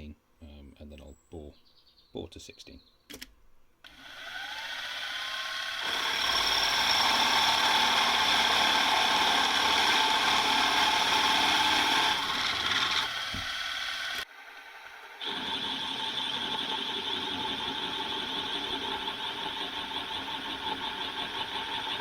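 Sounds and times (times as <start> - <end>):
drill bit grinding into aluminium: 3.9 - 22.0
milling machine spindle whining: 3.9 - 22.0.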